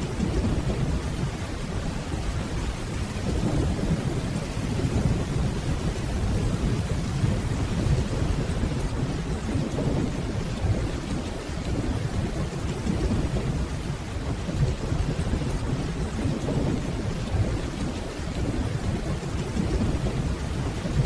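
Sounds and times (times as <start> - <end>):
distant thunder rumbling: 0.0 - 21.0
steady rainfall: 0.0 - 21.0.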